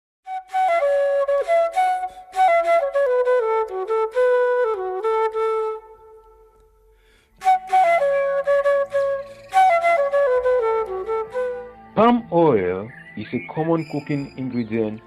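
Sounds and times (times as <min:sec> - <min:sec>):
flute melody: 0:00.2 - 0:15.0.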